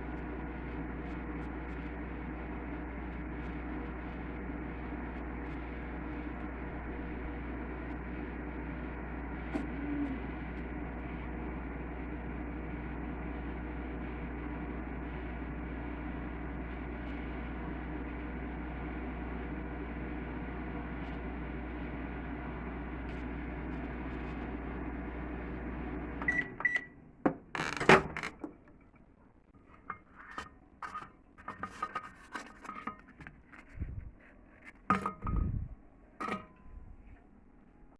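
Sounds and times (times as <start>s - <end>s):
microwave oven humming: 0.0s - 37.9s.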